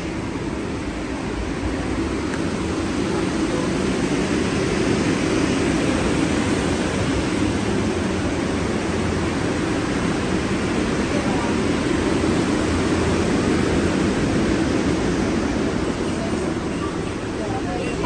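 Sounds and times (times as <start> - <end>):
subway train running in tunnel: 0.0 - 18.0.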